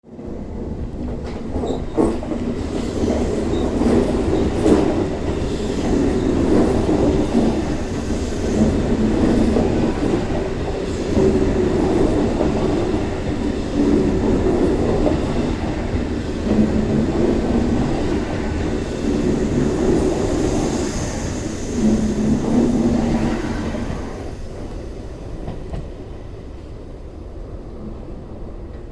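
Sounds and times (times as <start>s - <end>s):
train wheels rumbling on rail: 0.1s - 28.9s.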